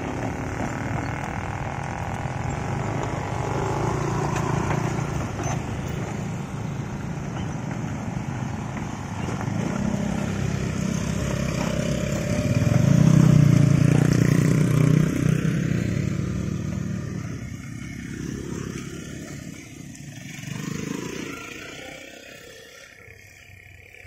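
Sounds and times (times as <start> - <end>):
motor scooters riding past: 0.0 - 24.0.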